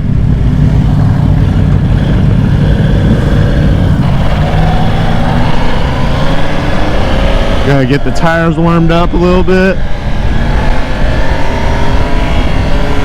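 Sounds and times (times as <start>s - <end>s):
motorbike engines rumbling: 0.0s - 13.0s.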